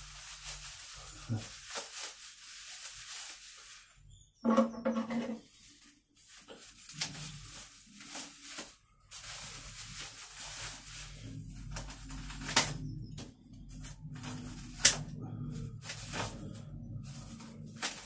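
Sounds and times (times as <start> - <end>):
plastic wrapping rustling and tearing: 0.0 - 4.2, 5.4 - 18.0.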